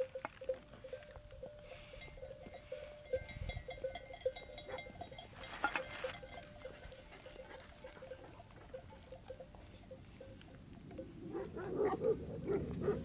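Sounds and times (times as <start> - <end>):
sheep bells tinkling: 0.0 - 11.3.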